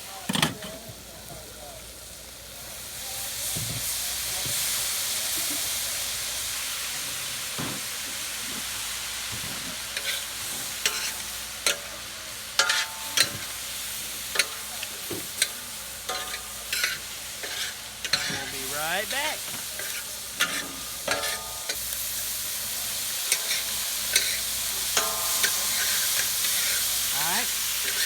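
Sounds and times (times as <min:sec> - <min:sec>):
vegetables sizzling in oil: 0:00.0 - 0:28.0
utensil clinking and scraping wok: 0:00.1 - 0:28.0.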